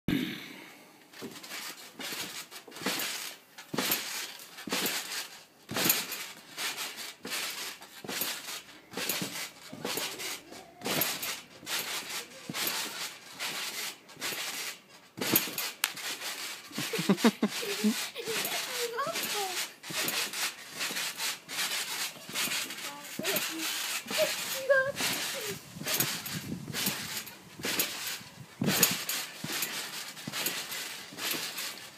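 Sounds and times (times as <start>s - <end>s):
trampoline springs bouncing: 1.1s - 31.9s.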